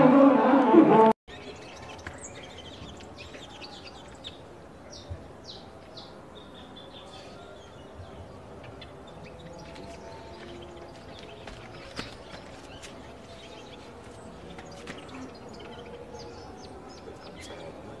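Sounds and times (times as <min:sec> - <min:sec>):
faint steady background noise: 0:00.0 - 0:18.0
small birds chirping: 0:01.3 - 0:18.0.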